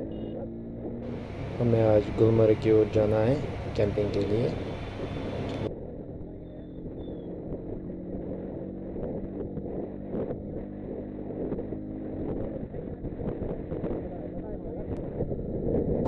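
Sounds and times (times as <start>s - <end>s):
motorcycle engine running: 0.0s - 16.0s
wind buffeting microphone: 0.8s - 16.0s.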